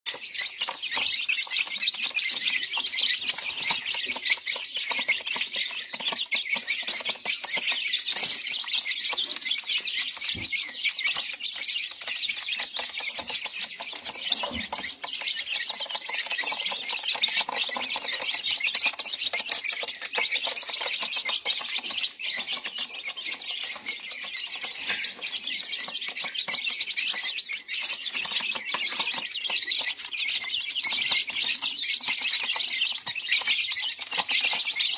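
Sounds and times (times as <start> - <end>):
chicks peeping: 0.0 - 34.9.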